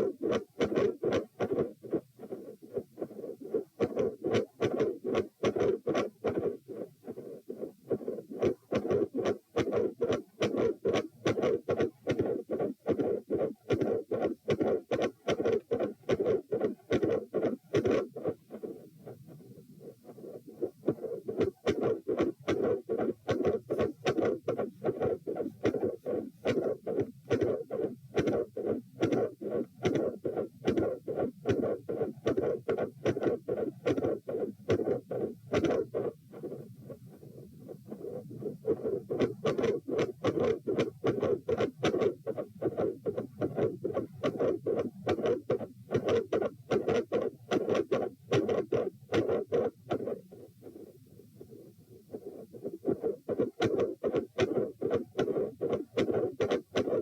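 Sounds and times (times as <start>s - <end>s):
heartbeat with whooshing murmur: 0.0s - 57.0s.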